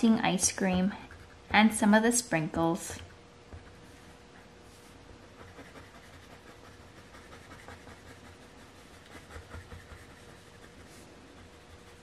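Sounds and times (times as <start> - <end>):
faint steady hum: 0.0 - 12.0
colored pencil scratching on paper: 0.4 - 1.8, 3.0 - 12.0.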